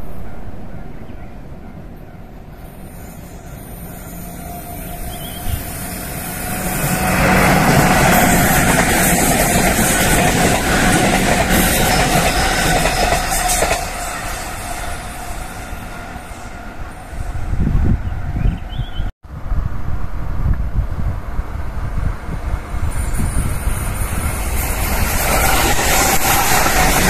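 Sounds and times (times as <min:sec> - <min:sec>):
electric train passing: 0:00.0 - 0:18.4, 0:20.2 - 0:27.0.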